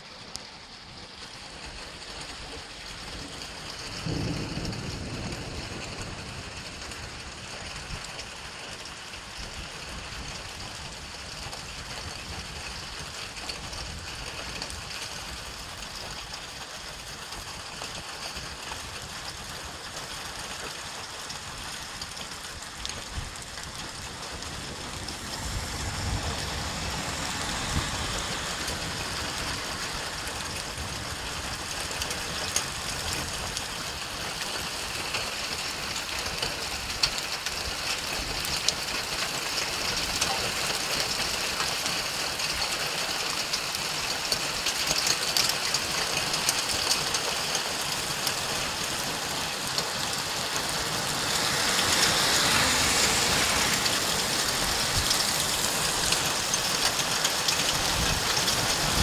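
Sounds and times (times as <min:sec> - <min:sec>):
heavy rain on a street: 0:00.0 - 0:59.0.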